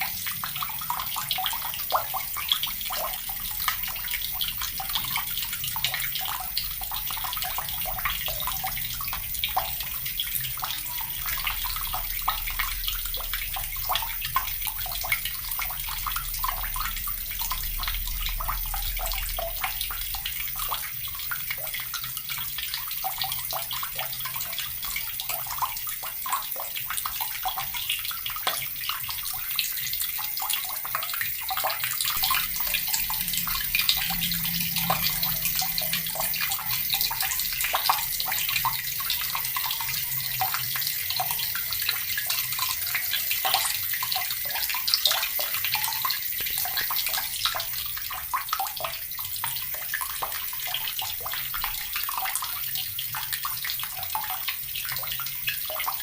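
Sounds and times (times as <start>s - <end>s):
tap water running and splashing: 0.0s - 56.0s.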